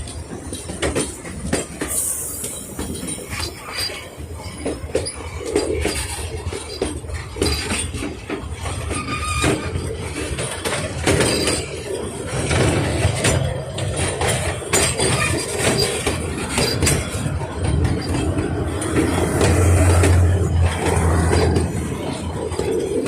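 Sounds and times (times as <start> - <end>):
steam train rumble: 0.0 - 23.0
wheels clicking and clattering: 0.0 - 23.0.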